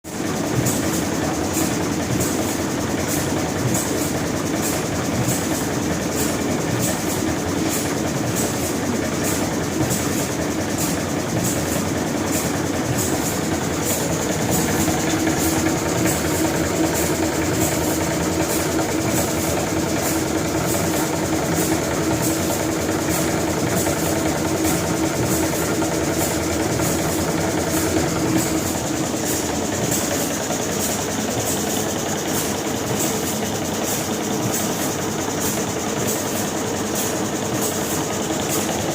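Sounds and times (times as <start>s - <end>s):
washing machine hum: 0.0s - 38.9s.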